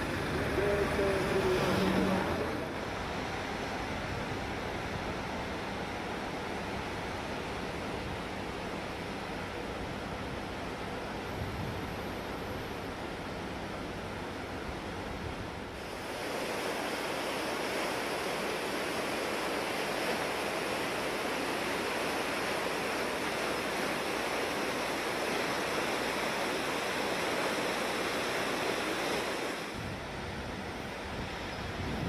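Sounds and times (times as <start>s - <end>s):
river floodwater rushing: 0.0s - 32.0s.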